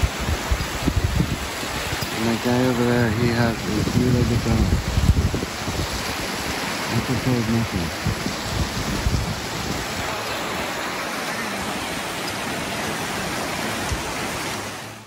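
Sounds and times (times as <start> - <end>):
wind on microphone: 0.0 - 14.6
low buffeting gusts: 0.0 - 15.0.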